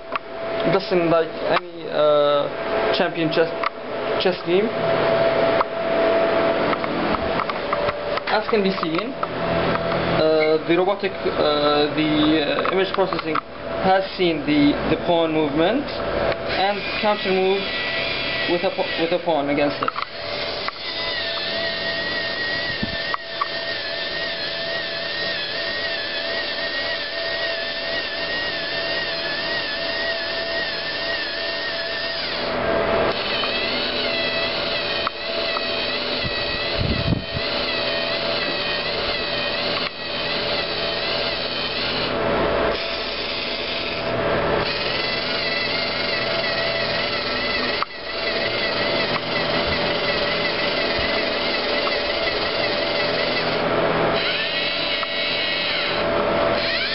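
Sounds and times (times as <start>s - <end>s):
servo motors whining: 6.5s - 56.9s.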